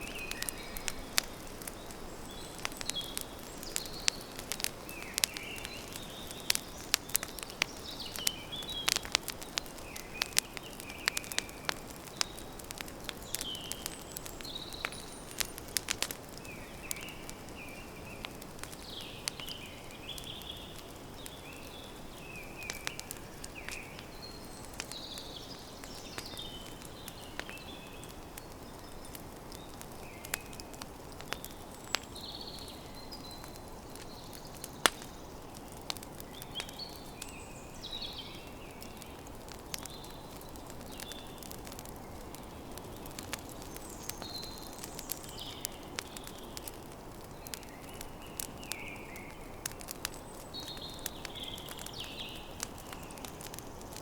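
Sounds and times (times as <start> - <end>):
campfire crackling and popping: 0.0 - 54.0
small birds chirping: 0.0 - 54.0.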